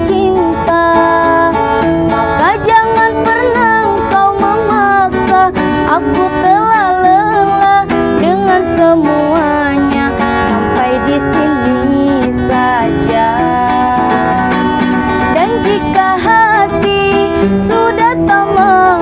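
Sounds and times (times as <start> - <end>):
acoustic guitar strumming: 0.0 - 19.0
wavering melody with vibrato: 0.0 - 19.0.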